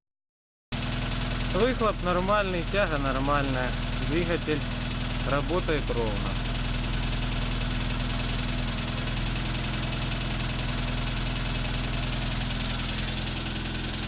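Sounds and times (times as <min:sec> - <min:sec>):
engine idling with steady knock: 0:00.7 - 0:14.0.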